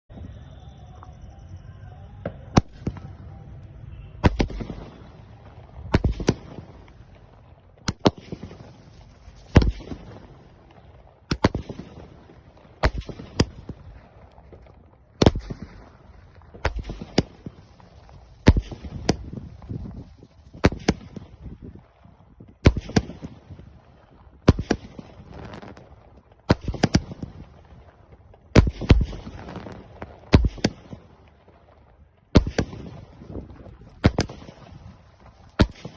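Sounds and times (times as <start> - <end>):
fireworks bangs: 0.1 - 35.9
fireworks crackle: 0.1 - 35.9.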